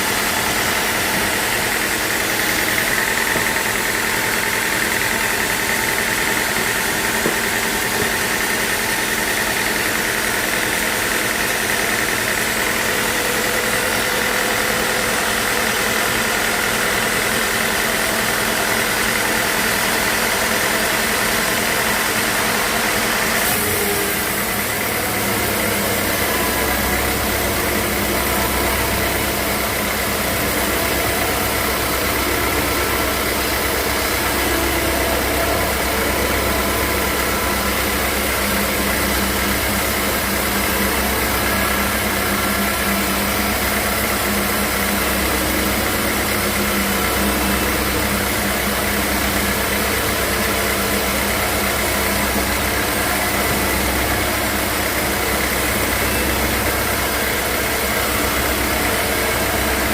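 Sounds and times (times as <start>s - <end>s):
sawmill machinery motor hum: 0.0s - 59.9s.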